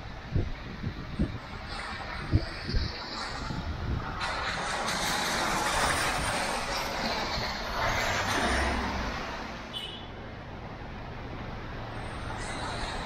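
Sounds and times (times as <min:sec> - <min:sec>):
steady traffic hum: 0:00.0 - 0:13.0
tyres hissing on wet road: 0:00.1 - 0:13.0.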